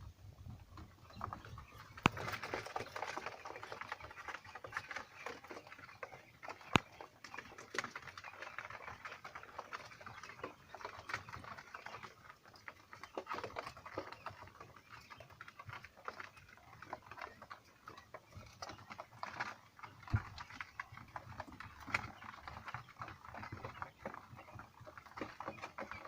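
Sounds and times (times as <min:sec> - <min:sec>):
chicks pecking and scurrying: 0:00.0 - 0:26.0.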